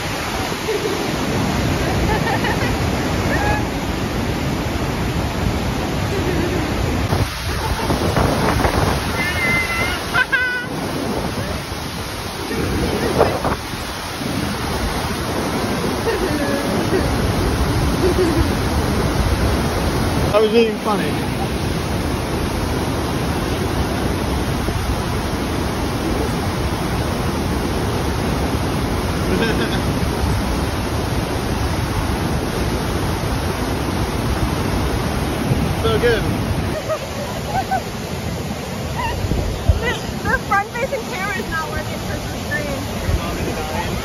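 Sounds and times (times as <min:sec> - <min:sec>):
wind buffeting microphone: 0:00.0 - 0:20.4, 0:21.0 - 0:44.0
waterfall rushing: 0:00.0 - 0:44.0.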